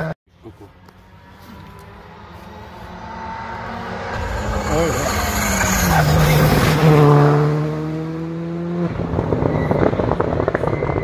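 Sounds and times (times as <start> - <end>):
rally car passing at speed: 0.8 - 11.0.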